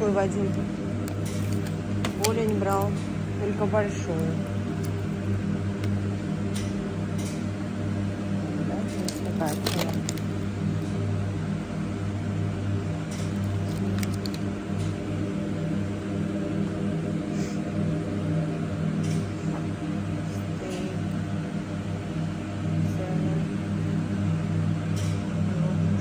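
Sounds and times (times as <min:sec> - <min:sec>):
refrigerated display cases humming: 0:00.0 - 0:26.0.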